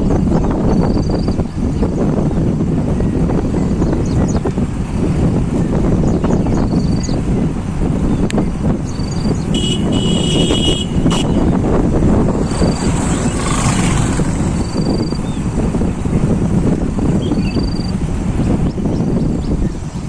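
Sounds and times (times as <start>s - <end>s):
motorcycle engine rumble: 0.0s - 20.0s
wind rushing over microphone: 0.0s - 20.0s.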